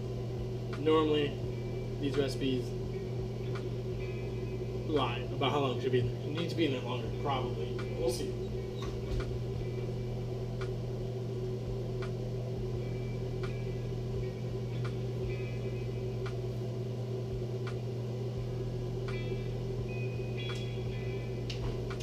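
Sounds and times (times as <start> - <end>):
appliance humming: 0.0 - 22.0.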